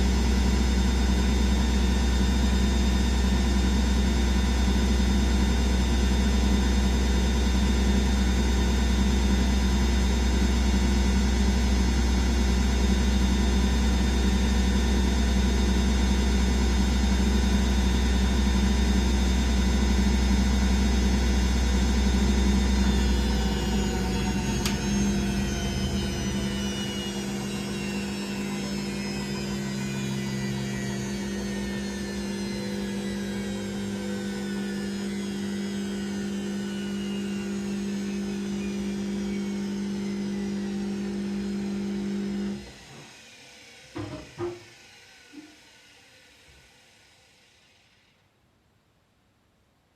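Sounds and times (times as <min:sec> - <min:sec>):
washing machine spinning: 0:00.0 - 0:45.8.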